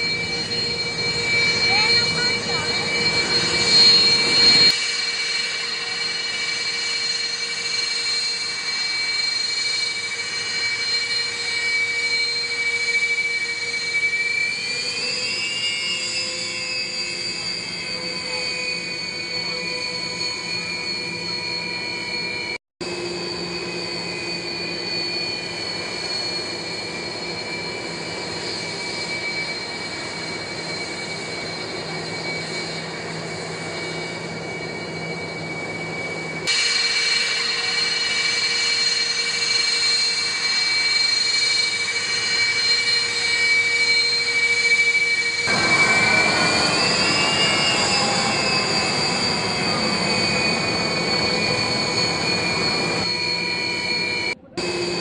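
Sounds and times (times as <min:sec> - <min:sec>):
jet engines whining: 0:00.0 - 0:55.0
jet passing by: 0:00.0 - 0:55.0.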